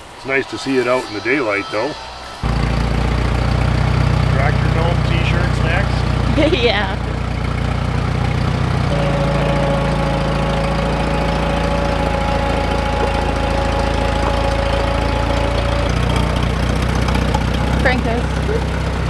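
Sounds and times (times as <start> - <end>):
steady whine: 0.7 - 19.0
engine idling: 2.0 - 19.0.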